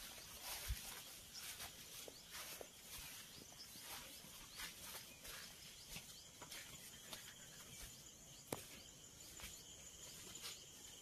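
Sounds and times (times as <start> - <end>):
bird chirps: 0.0 - 11.0
footsteps on dirt path: 0.0 - 11.0.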